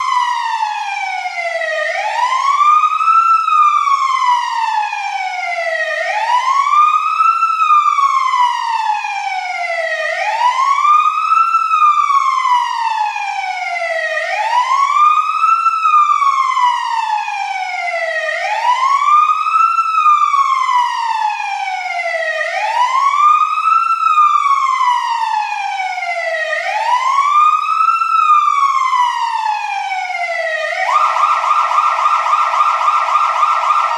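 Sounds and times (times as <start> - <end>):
fire engine siren wailing: 0.0 - 33.9.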